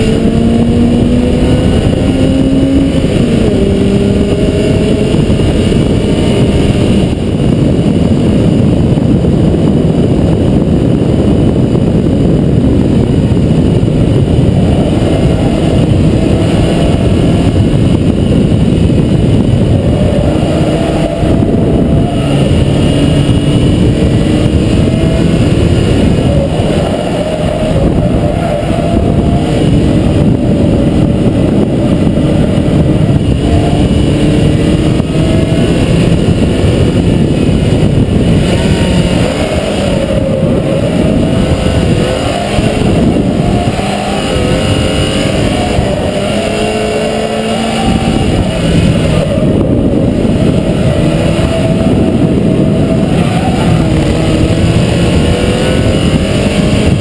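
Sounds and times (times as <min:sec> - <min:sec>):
car engine accelerating: 0:00.0 - 0:57.0
road and wind noise: 0:00.0 - 0:57.0.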